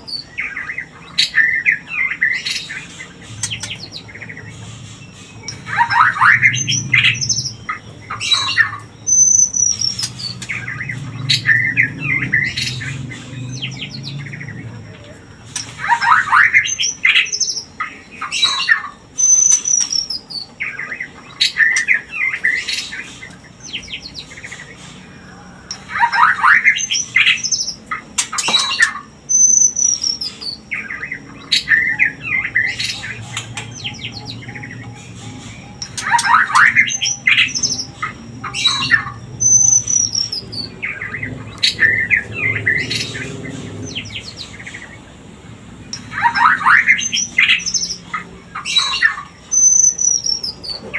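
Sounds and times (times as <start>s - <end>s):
bird chattering calls: 0.0s - 50.9s.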